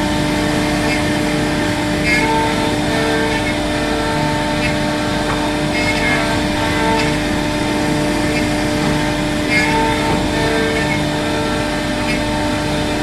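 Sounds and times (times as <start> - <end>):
cnc router spindle whine: 0.0 - 13.0
router cutting wood: 0.0 - 13.0.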